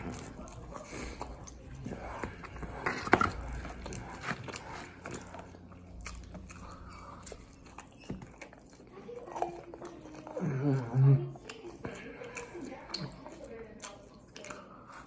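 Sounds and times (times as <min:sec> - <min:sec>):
person chewing pizza: 0:00.0 - 0:15.0.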